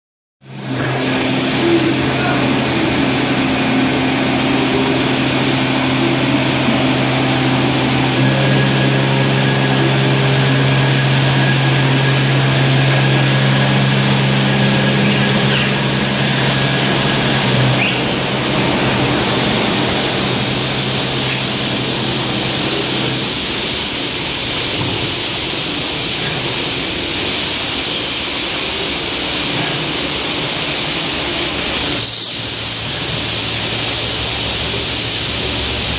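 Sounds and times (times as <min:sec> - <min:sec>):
car wash motor humming: 0:00.4 - 0:35.9
water jets hissing: 0:00.5 - 0:35.9.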